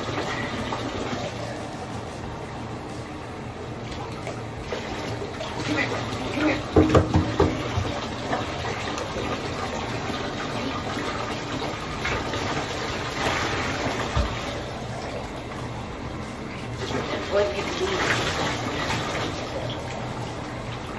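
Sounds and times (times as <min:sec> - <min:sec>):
water pouring into bathtub: 0:00.0 - 0:01.7, 0:03.8 - 0:15.9, 0:16.7 - 0:20.9
water splashes: 0:03.7 - 0:20.9.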